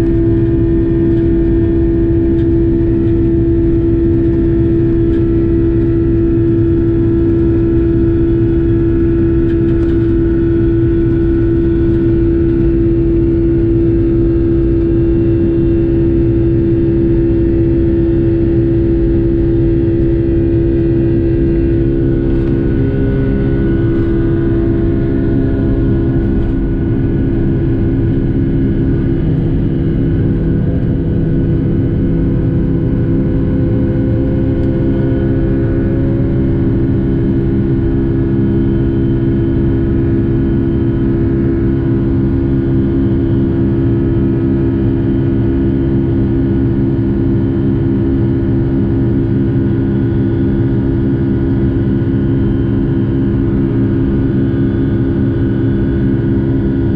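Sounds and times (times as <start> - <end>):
jet engine cabin drone: 0.0 - 56.9.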